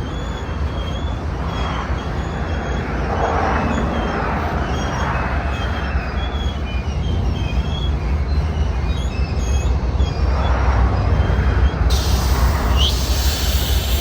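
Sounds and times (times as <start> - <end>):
train rumbling on rails: 0.0 - 14.0
wheels squealing on track: 0.0 - 14.0.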